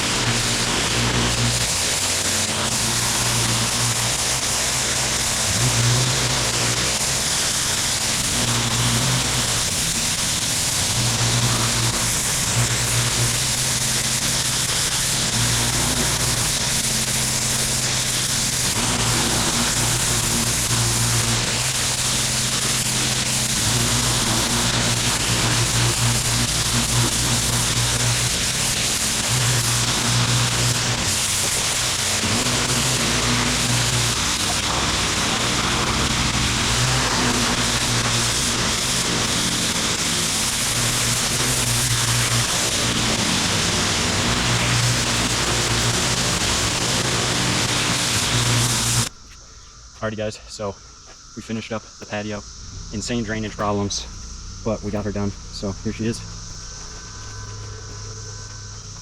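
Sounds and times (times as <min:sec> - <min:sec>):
engine low hum: 0:00.0 - 0:50.0, 0:50.8 - 0:59.0
water jet hissing on pavers: 0:00.0 - 0:59.0.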